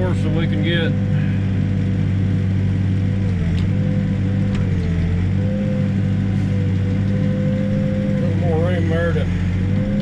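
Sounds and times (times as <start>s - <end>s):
backhoe diesel engine: 0.0s - 10.0s
machine whine: 0.0s - 10.0s.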